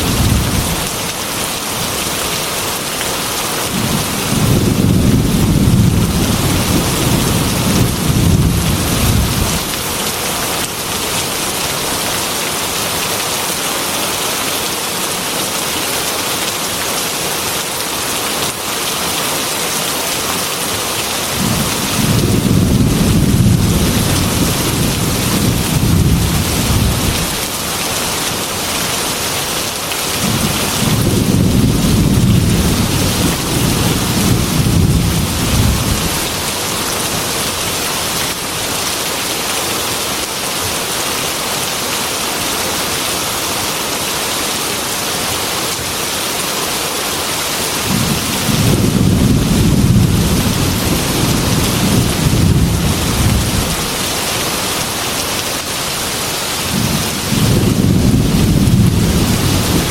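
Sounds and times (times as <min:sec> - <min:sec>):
heavy rain on a glass window: 0:00.0 - 0:59.9.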